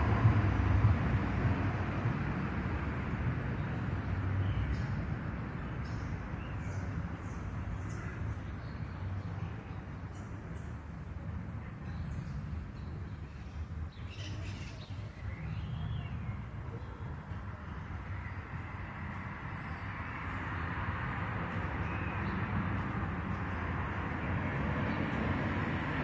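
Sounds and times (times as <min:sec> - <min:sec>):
small birds chirping: 0:03.5 - 0:25.9.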